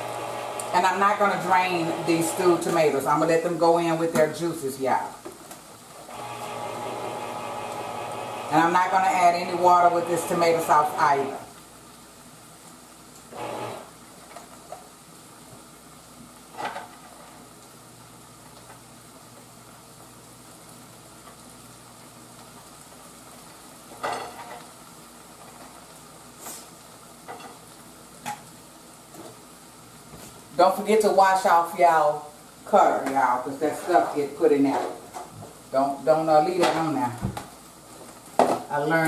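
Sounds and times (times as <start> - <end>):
vegetables sizzling in a frying pan: 0.0 - 39.0.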